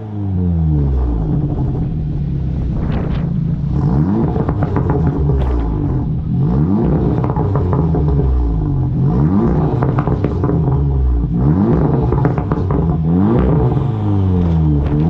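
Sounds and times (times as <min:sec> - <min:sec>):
car engine revving: 0:00.0 - 0:15.0
exhaust crackles: 0:00.0 - 0:15.0.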